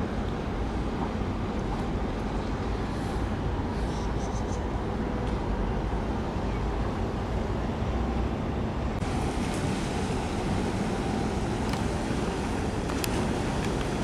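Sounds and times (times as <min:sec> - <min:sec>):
harbour water washing: 0:00.0 - 0:14.0.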